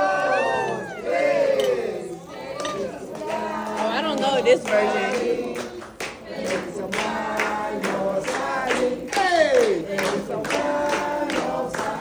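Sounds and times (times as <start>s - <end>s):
song with singing voices: 0.0s - 12.0s.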